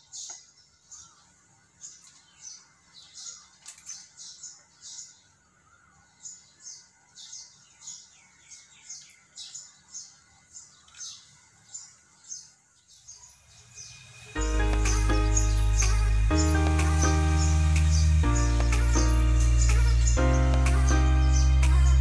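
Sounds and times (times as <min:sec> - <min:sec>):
small bird chirping: 0:00.0 - 0:22.0.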